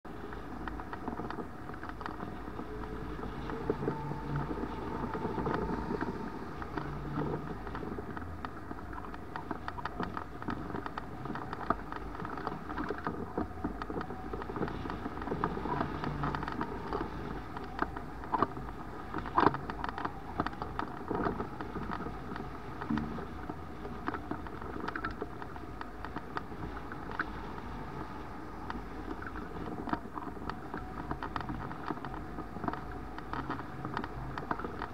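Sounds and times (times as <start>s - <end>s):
wind rushing over camera: 0.0s - 34.9s
small clicks and rattles: 0.1s - 34.9s.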